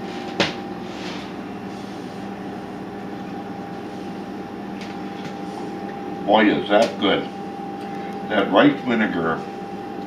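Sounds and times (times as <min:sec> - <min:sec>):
fan humming: 0:00.0 - 0:10.0.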